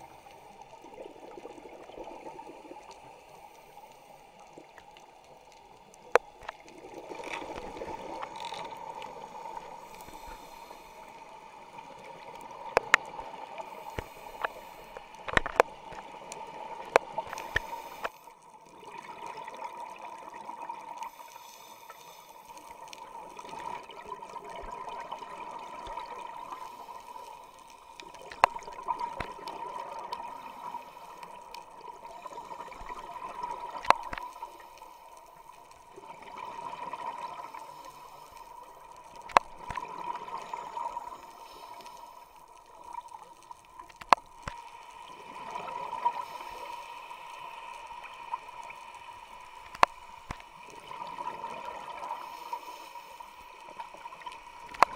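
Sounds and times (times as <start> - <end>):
faint steady tone: 0.0 - 54.9.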